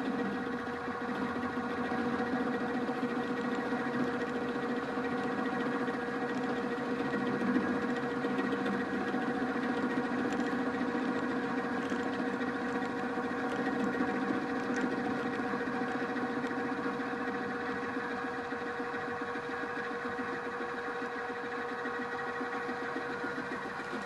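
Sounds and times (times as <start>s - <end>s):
drill press milling with chatter: 0.0s - 24.0s.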